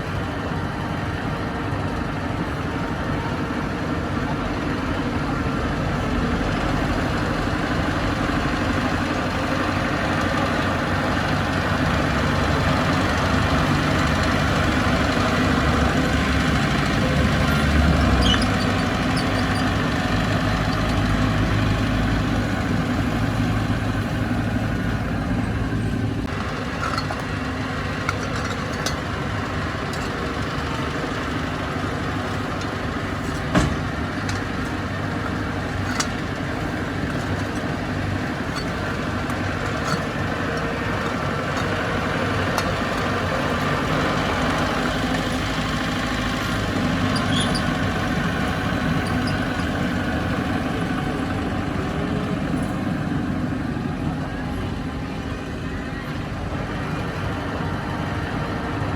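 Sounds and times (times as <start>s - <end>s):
diesel machinery rumbling: 0.0s - 58.9s.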